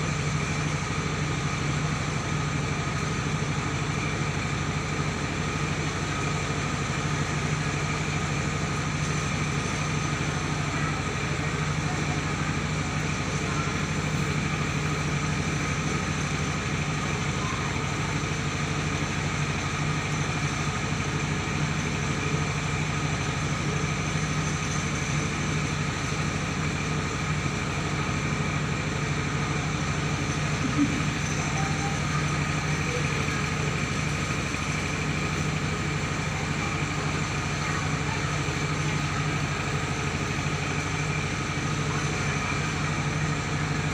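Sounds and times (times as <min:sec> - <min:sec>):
engine hum: 0:00.0 - 0:43.9
high whine of milling machinery: 0:00.0 - 0:43.9.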